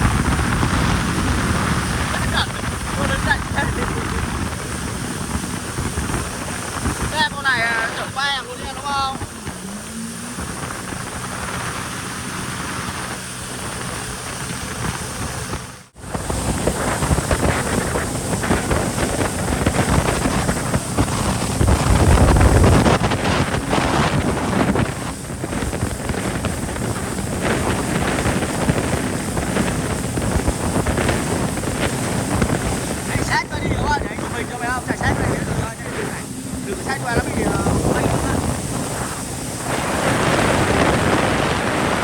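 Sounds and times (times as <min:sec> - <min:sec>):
jet ski engine drone: 0:00.0 - 0:42.0
water rushing: 0:00.0 - 0:42.0
wind buffeting microphone: 0:00.0 - 0:42.0.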